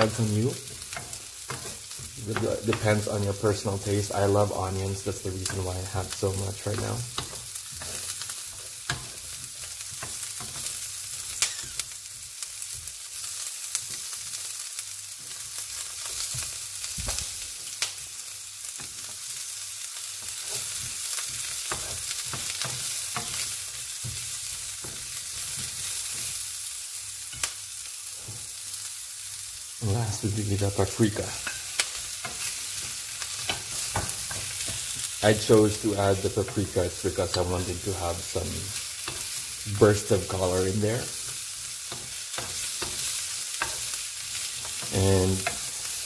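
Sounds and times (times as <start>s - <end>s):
onions sizzling in oil: 0.0s - 46.0s.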